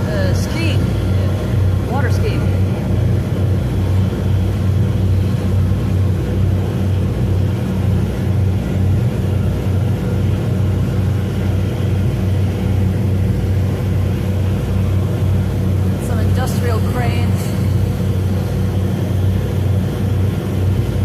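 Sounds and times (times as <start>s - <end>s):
ferry engines humming: 0.0s - 21.0s.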